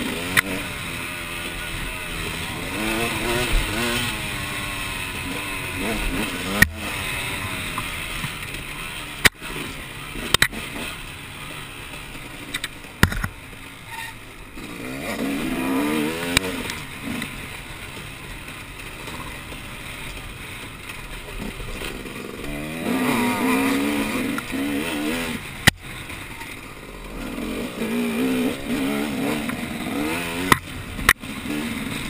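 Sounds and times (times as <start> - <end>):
off-road motorcycle engine revving: 0.0 - 32.0.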